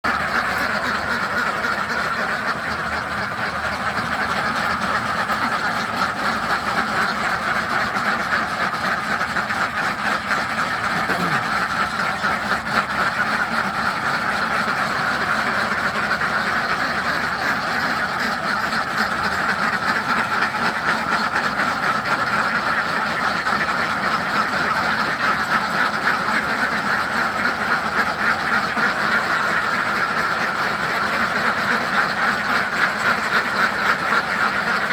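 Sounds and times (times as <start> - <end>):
ducks quacking: 0.0 - 34.9.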